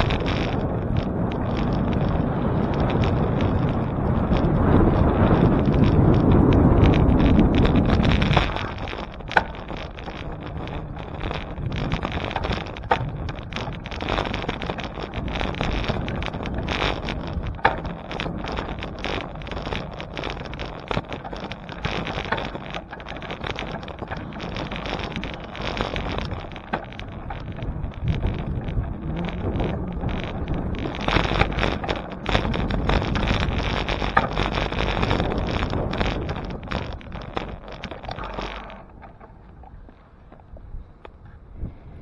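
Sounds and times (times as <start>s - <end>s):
sharp clicks and rattles: 0.0s - 41.2s
bicycle ride rumble: 0.0s - 42.0s
wind buffeting microphone: 0.0s - 42.0s.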